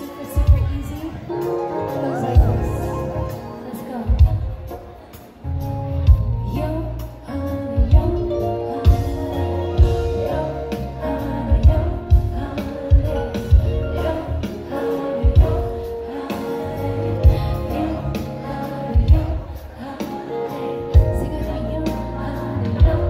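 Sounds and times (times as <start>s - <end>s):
live band music with singing: 0.0s - 23.0s.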